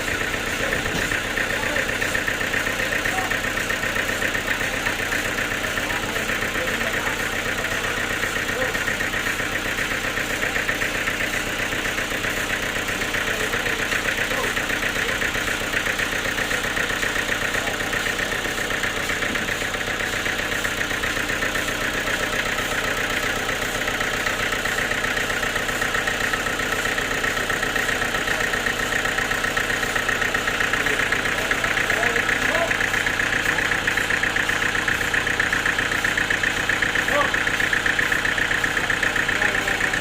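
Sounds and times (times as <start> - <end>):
sawmill machinery droning: 0.0 - 40.0.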